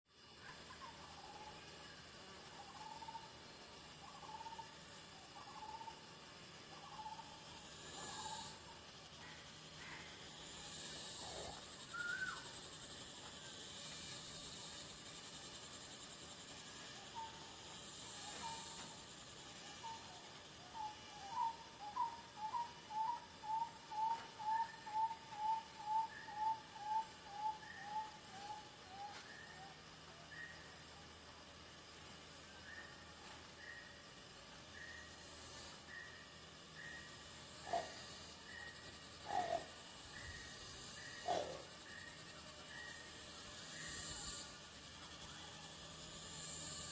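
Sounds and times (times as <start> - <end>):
insects hissing: 0.1 - 46.9.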